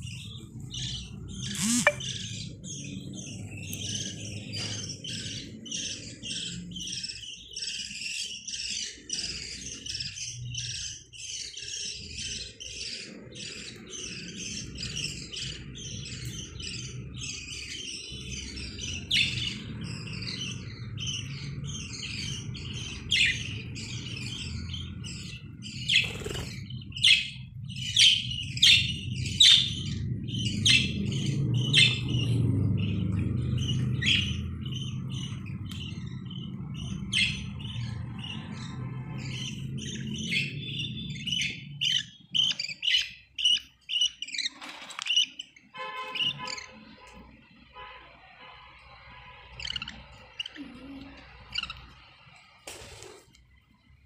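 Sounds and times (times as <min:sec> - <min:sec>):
budgerigars chattering and chirping: 0:00.0 - 0:47.7, 0:48.8 - 0:53.2
sharp bird calls: 0:00.0 - 0:54.0.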